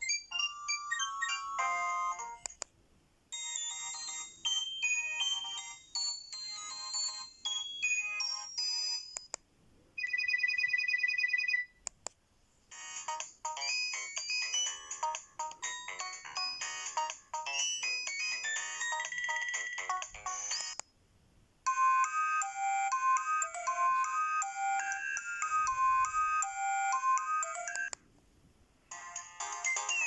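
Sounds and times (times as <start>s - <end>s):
electronic phone ringtone melody: 0.0s - 2.4s, 3.3s - 9.3s, 10.0s - 11.7s, 12.7s - 20.8s, 21.7s - 28.0s, 28.9s - 30.0s.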